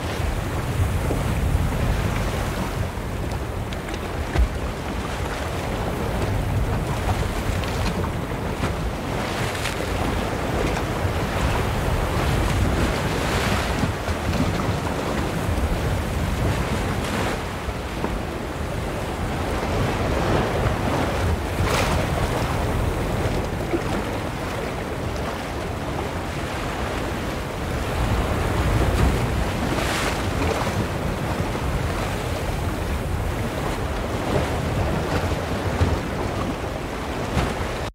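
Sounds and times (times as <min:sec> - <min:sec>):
ocean waves splashing: 0:00.0 - 0:37.9.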